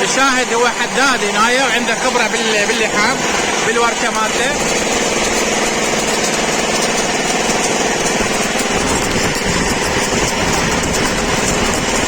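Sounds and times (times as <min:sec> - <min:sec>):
arc welding crackle and hiss: 0:00.0 - 0:12.0
small engine running: 0:00.0 - 0:12.0.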